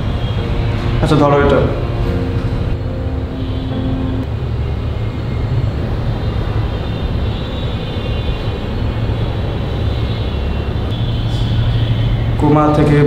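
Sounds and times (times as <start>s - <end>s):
low rumbling drone: 0.0s - 12.4s.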